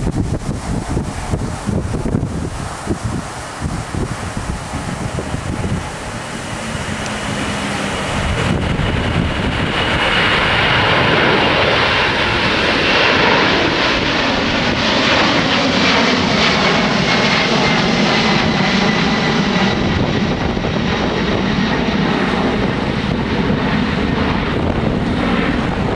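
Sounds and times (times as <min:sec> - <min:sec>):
high fan whine: 0:00.0 - 0:25.9
jet engine roar: 0:00.0 - 0:25.9.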